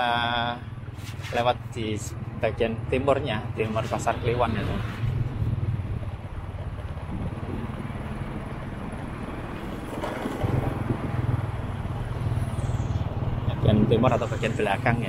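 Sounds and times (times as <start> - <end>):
street noise: 0.0 - 15.0
vehicle engine humming: 0.0 - 15.0.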